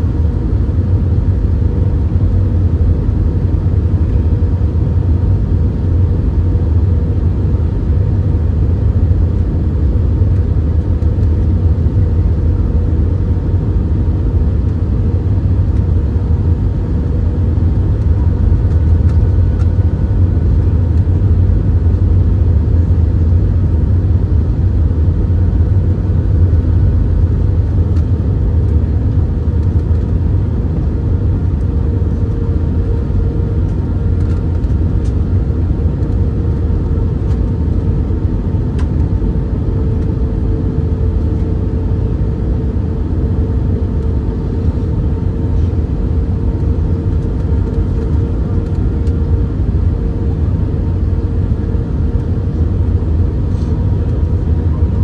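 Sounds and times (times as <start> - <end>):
jet engines rumbling: 0.0 - 55.0
mid-pitched whine: 0.0 - 55.0.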